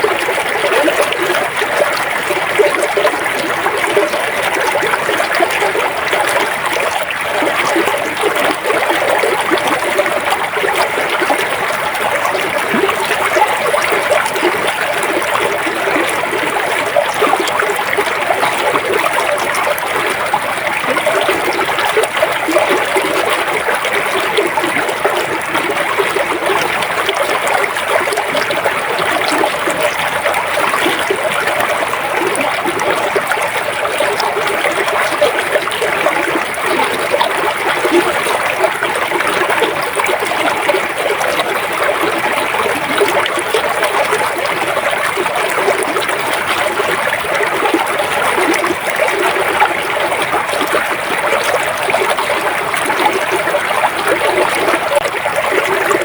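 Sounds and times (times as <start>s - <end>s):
stream flowing over stones: 0.0s - 56.0s.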